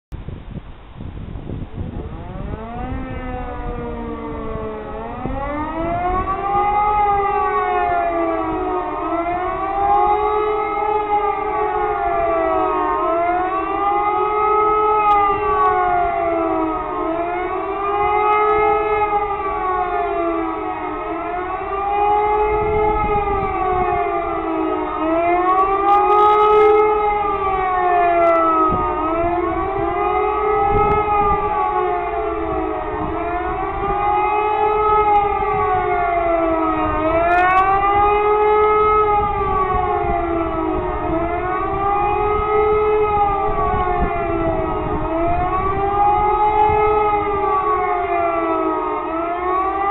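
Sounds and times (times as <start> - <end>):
howling civil defence siren: 0.1 - 49.9.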